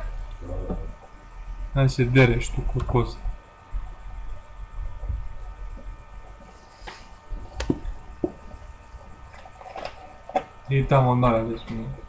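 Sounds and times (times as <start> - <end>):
faint electrical whine: 0.0 - 12.0.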